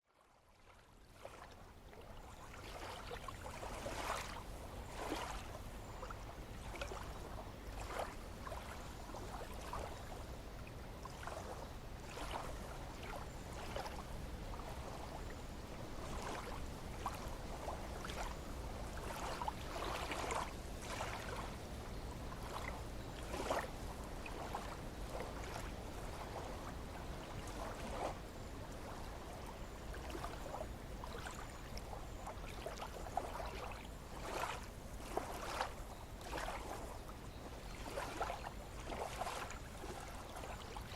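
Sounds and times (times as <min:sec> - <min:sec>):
water lapping and splashing: 0:00.1 - 0:40.9.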